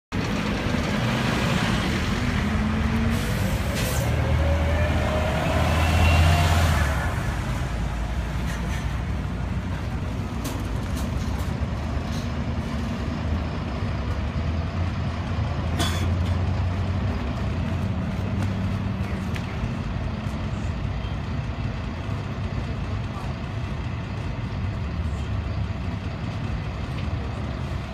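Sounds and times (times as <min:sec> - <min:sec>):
bus engine passing with whine: 0:00.1 - 0:27.9
street traffic: 0:00.1 - 0:27.9.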